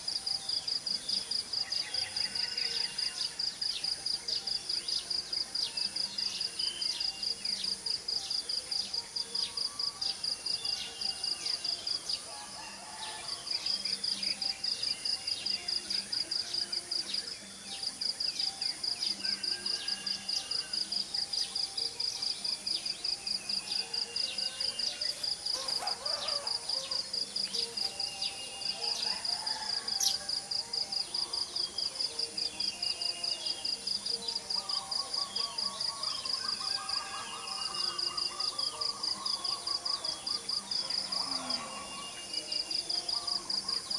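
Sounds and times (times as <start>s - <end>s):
cricket chirping: 0.0s - 43.9s.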